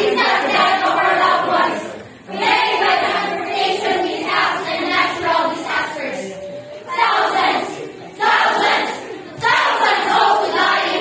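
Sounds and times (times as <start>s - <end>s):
young women singing together: 0.0s - 11.0s.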